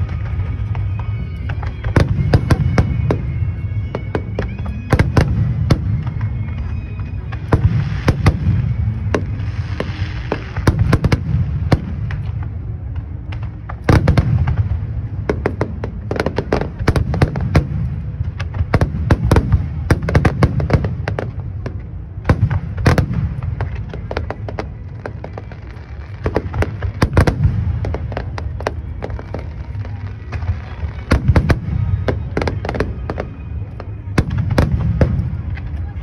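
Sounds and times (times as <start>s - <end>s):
continuous low rumble: 0.0s - 36.0s
firework shells banging and crackling: 0.0s - 36.0s.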